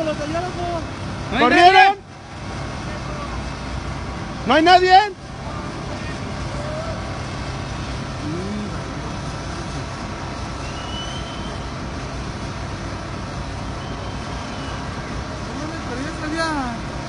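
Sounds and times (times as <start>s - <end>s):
heavy machinery engines running: 0.0s - 17.0s.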